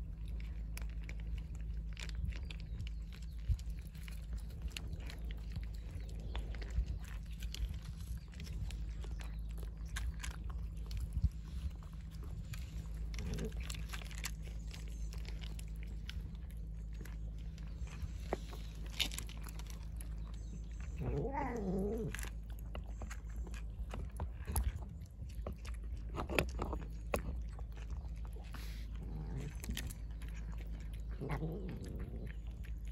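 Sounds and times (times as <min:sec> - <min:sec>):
cats crunching dry kibble: 0:00.0 - 0:32.9
cats lapping wet food: 0:00.0 - 0:32.9.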